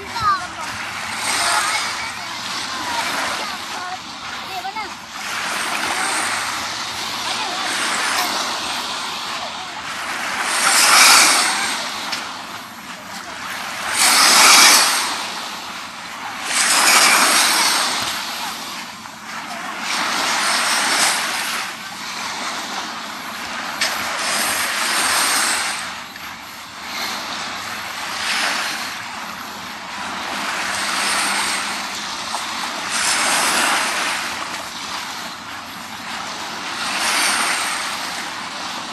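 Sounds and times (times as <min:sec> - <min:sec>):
sea waves washing onto beach: 0:00.0 - 0:38.9.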